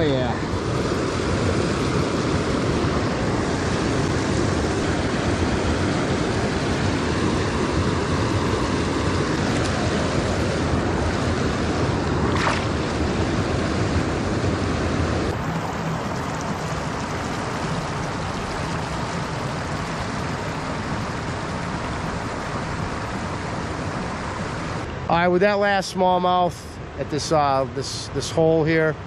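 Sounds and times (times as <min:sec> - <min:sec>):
river water over rapids: 0:00.0 - 0:25.3.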